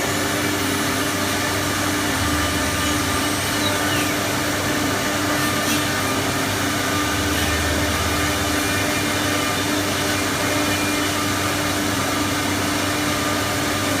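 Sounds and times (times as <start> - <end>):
faint steady hum: 0.0 - 12.2
cnc router hissing: 0.0 - 14.0.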